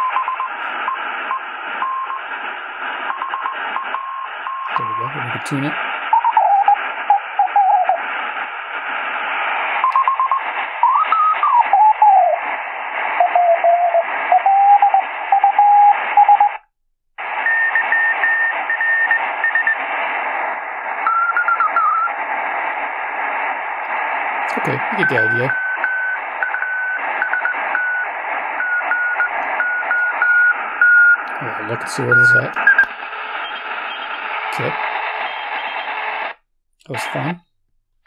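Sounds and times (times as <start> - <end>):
radio static and hiss: 0.0 - 16.6, 17.2 - 37.4.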